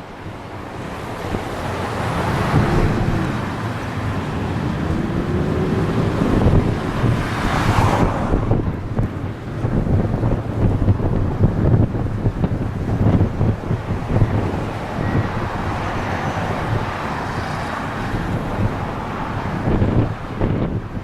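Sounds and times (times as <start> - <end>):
jet engines at takeoff power: 0.0 - 21.0
wind rumbling on microphone: 0.0 - 21.0.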